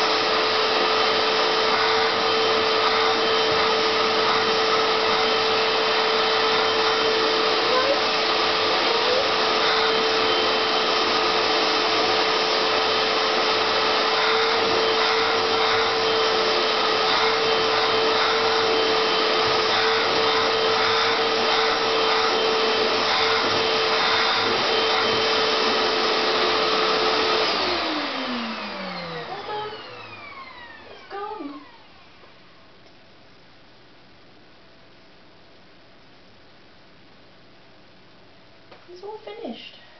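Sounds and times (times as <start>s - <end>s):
vacuum cleaner running: 0.0s - 32.8s.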